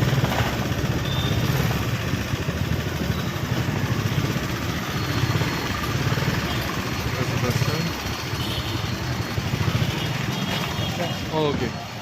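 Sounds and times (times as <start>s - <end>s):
busy street noise: 0.0s - 12.0s
vehicle engine running: 0.0s - 12.0s.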